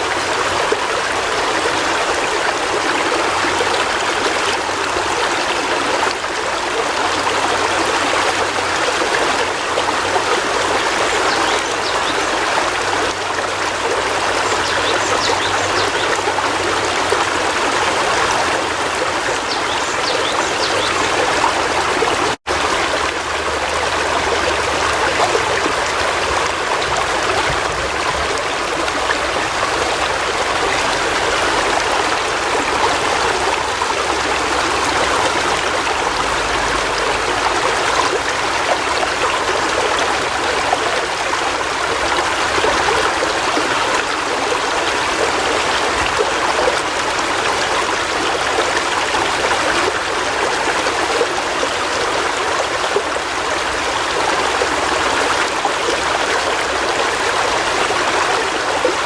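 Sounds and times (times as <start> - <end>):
river water rushing and trickling: 0.0 - 59.0.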